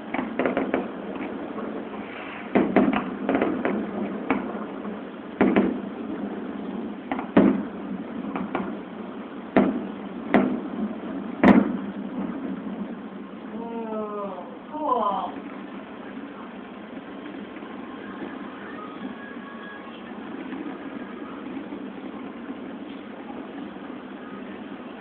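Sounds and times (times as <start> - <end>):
distant fireworks bangs: 0.0 - 14.7, 15.3 - 25.0.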